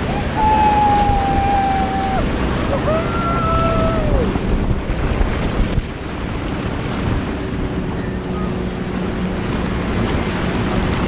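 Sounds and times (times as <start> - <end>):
motorboat engine humming: 0.0 - 11.0
rushing water: 0.0 - 11.0
wind buffeting microphone: 0.0 - 11.0.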